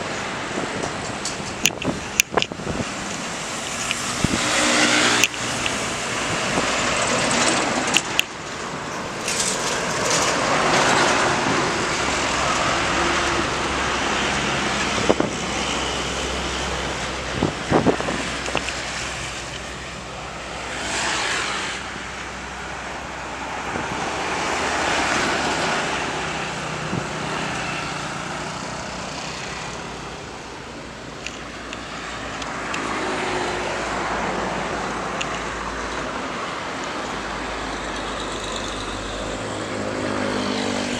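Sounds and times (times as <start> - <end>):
cars passing: 0.0 - 40.9
motorcycles passing: 0.0 - 40.9.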